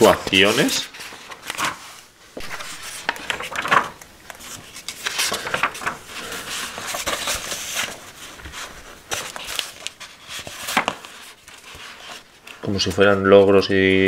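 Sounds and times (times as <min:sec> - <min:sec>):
paper sheets rustling: 0:00.0 - 0:14.0.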